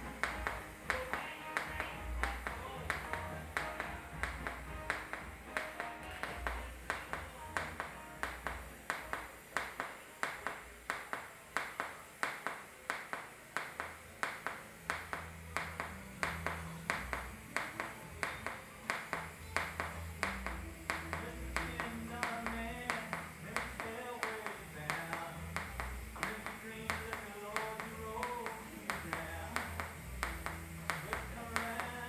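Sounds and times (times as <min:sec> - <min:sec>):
music with clap-like beat: 0:00.0 - 0:32.0.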